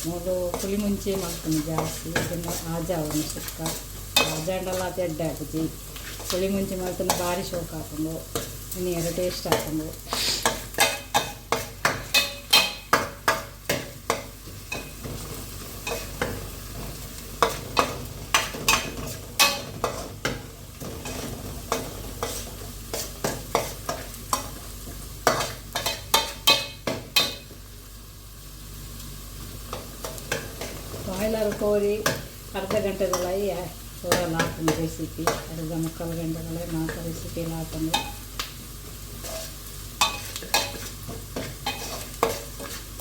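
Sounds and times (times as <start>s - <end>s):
food sizzling: 0.0s - 43.0s.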